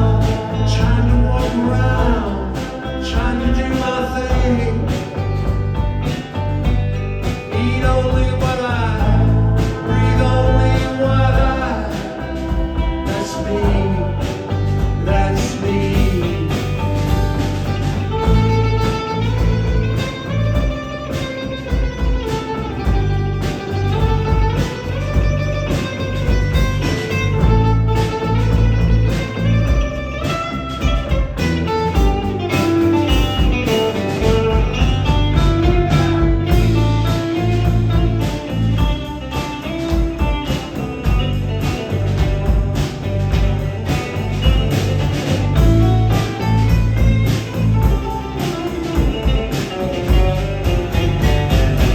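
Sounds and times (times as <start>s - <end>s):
electric guitar lead: 0.0s - 51.9s
live band playing: 0.0s - 51.9s.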